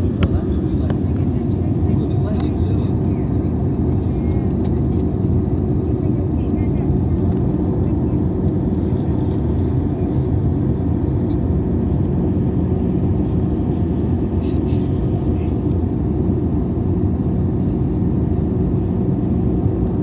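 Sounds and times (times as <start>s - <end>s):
jet airliner cabin noise: 0.0s - 20.0s.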